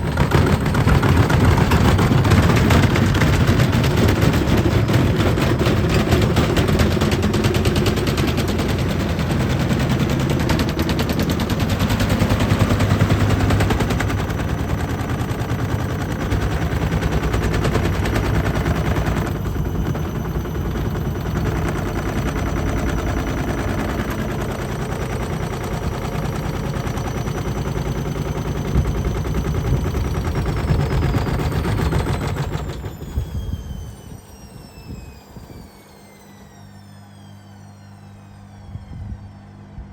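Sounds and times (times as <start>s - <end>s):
washing machine drum clattering: 0.0s - 32.9s
high motor whine: 0.0s - 39.9s.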